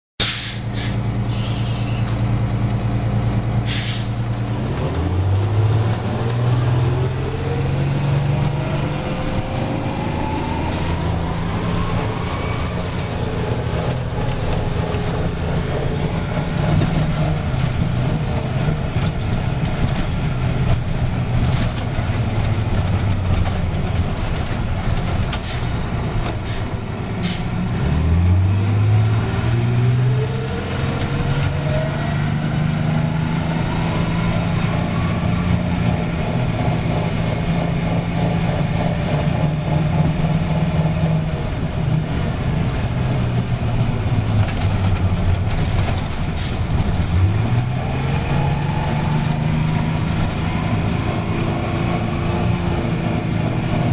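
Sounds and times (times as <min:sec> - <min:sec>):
diesel bus engine revving: 0:00.2 - 0:53.9.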